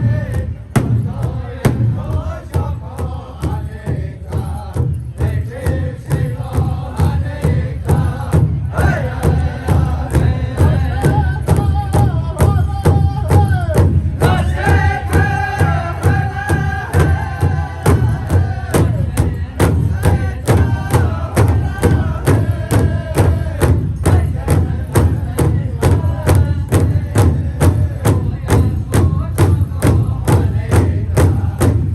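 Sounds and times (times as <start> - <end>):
large drum beat: 0.0 - 31.9
singers chanting: 0.0 - 31.9.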